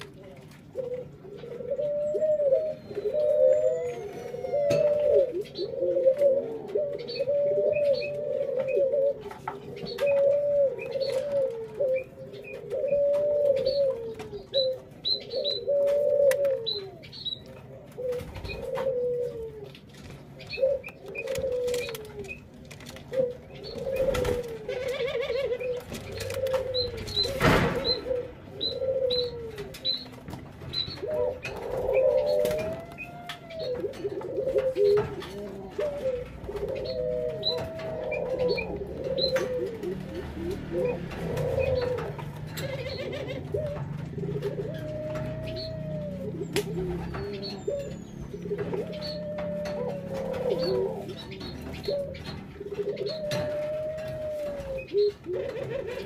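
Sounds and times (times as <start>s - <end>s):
doves cooing: 0.0s - 56.0s.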